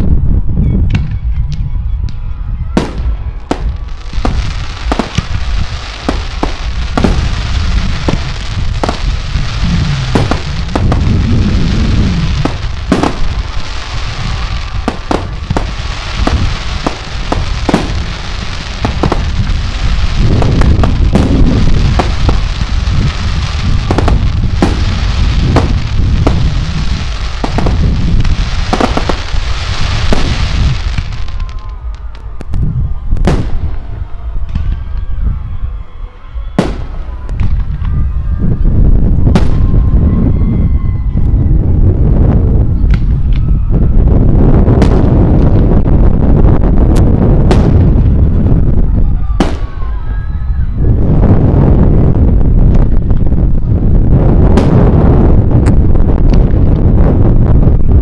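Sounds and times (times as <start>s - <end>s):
low rumble and hiss: 1.5s - 58.0s
fireworks bangs: 2.7s - 34.9s, 36.5s - 40.2s, 42.4s - 50.3s, 51.0s - 58.0s.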